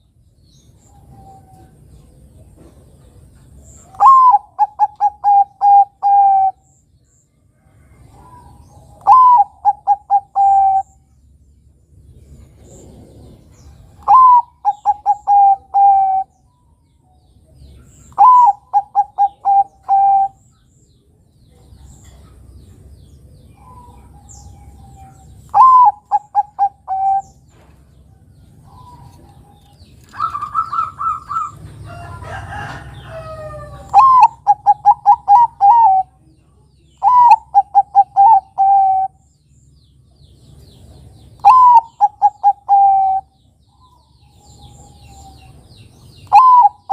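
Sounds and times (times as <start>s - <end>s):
dove cooing song: 0.7s - 6.8s, 7.6s - 11.1s, 12.2s - 16.8s, 17.4s - 20.6s, 21.5s - 39.3s, 40.6s - 46.9s.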